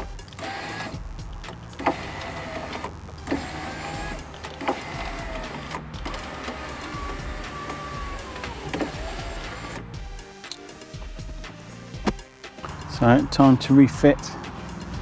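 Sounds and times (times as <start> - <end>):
power window motor whine: 0.0 - 12.8.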